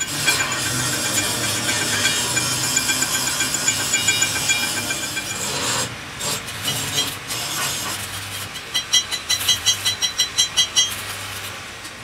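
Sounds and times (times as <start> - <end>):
low welder hum: 0.0 - 11.5.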